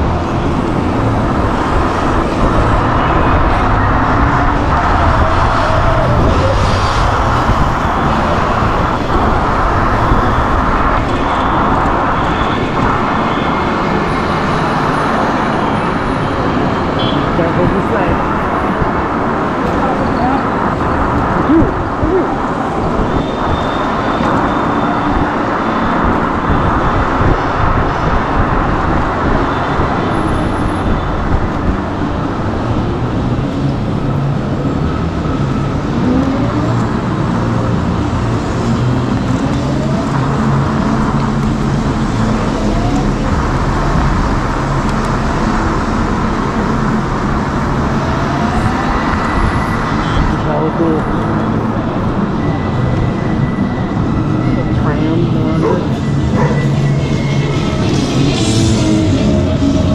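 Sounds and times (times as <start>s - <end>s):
road and traffic noise: 0.0s - 59.9s.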